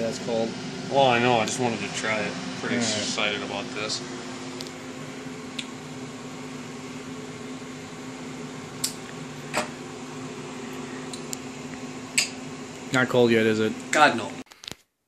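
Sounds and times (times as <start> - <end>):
cooling unit humming: 0.0 - 14.6.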